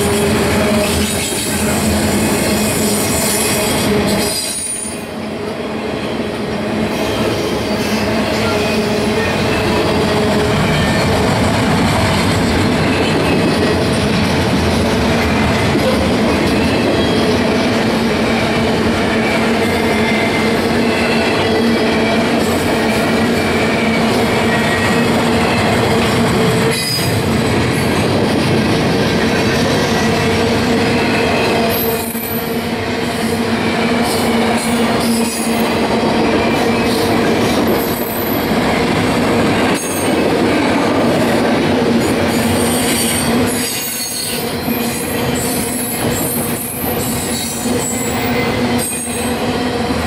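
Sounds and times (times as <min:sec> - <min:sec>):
freight train wheels rolling: 0:00.0 - 0:50.0.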